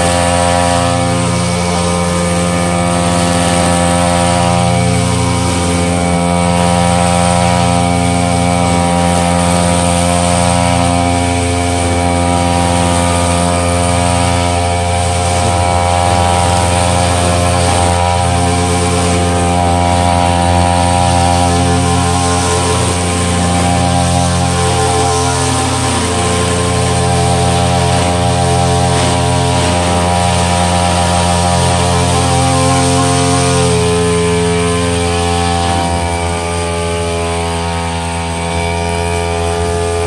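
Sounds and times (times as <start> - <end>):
brush cutter engine running: 0.0 - 40.0.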